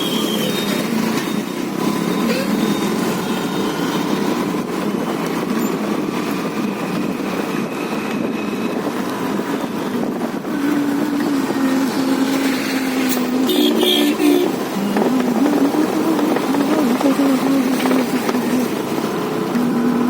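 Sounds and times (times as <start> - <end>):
scooter engine and road rumble: 0.0 - 20.0.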